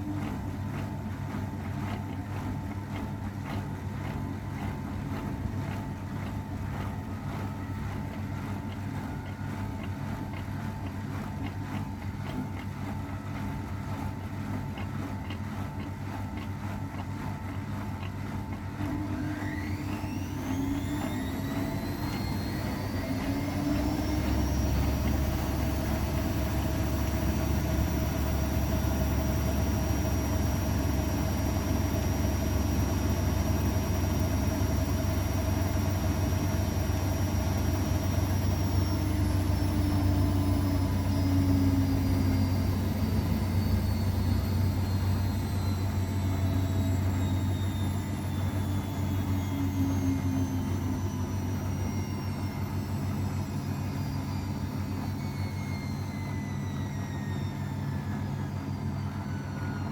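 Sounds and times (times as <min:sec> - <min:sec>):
washing machine motor whine: 0:00.0 - 0:59.9
washing machine running: 0:00.0 - 0:59.9.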